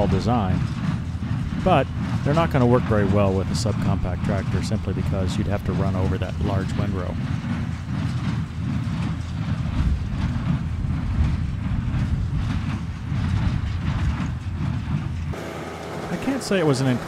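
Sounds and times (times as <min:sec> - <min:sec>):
tractor diesel engine drone: 0:00.0 - 0:17.0.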